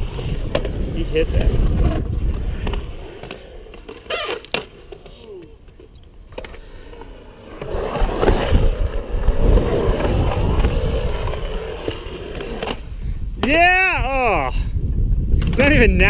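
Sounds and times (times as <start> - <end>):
skateboard wheels rolling on concrete: 0.0 - 14.4.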